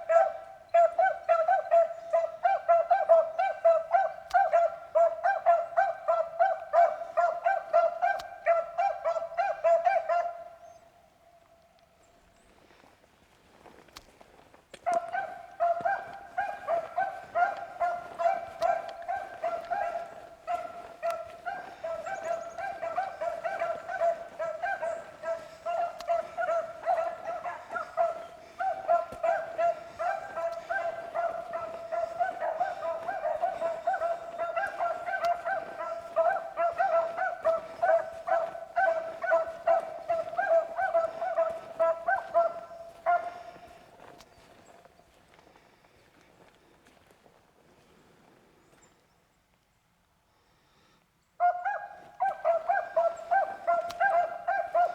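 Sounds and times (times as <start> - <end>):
beagles baying: 0.0 - 10.8, 14.8 - 44.7, 51.4 - 54.9.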